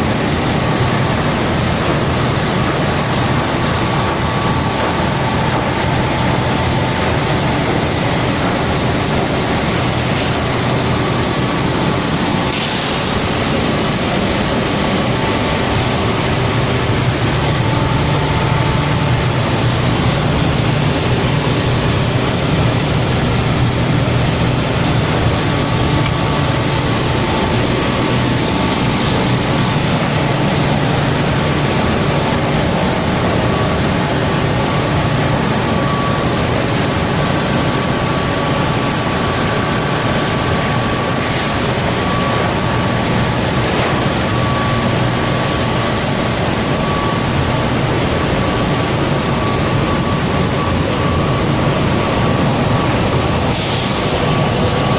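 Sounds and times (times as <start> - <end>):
low machinery hum: 0.0 - 54.9
thin high whine: 0.0 - 54.9.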